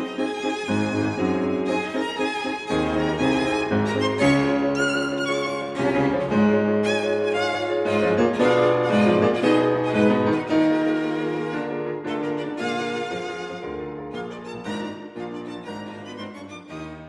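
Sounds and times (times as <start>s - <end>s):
low strings accompaniment: 0.0s - 17.0s
piano accompaniment: 0.0s - 17.0s
violin melody with vibrato: 0.0s - 17.0s.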